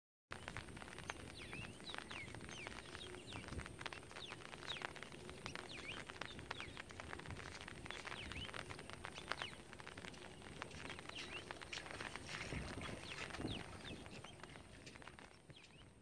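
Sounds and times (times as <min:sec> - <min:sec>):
small birds chirping: 0:00.3 - 0:16.0
soft clicks and rustles: 0:00.3 - 0:16.0.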